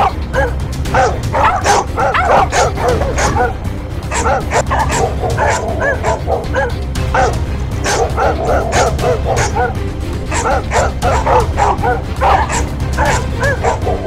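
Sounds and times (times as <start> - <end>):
background music: 0.0 - 14.0
dog barking rapidly: 0.0 - 14.0.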